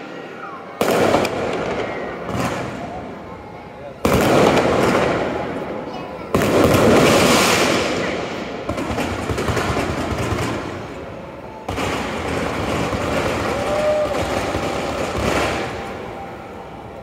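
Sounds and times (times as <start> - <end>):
fireworks crackling: 0.1 - 17.0.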